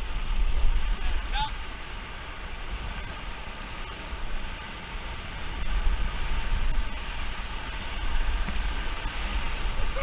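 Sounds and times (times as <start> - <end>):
whitewater river rushing: 0.0 - 10.0.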